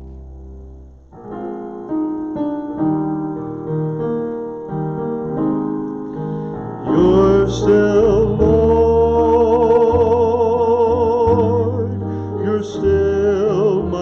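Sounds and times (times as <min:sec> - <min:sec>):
piano keyboard playing chords: 0:00.0 - 0:14.0.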